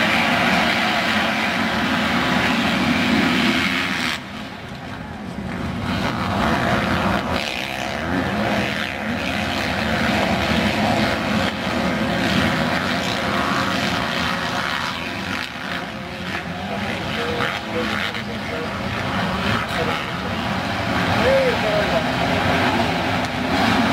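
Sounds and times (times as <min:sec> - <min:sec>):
motocross bike engines revving: 0:00.0 - 0:23.9.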